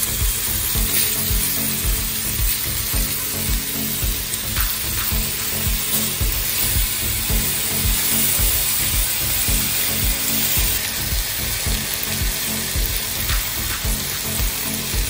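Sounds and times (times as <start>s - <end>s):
background music with low beat: 0.0s - 15.0s
chicken sizzling in grill pan: 0.0s - 15.0s.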